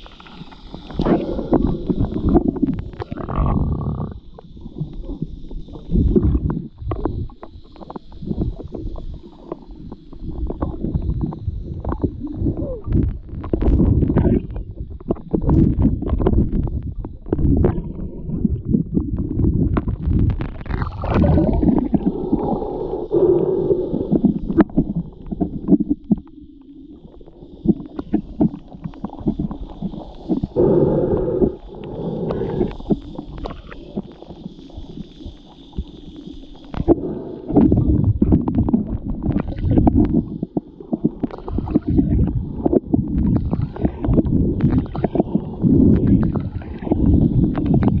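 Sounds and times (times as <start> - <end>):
underwater water churning and gurgling: 0.0 - 48.0.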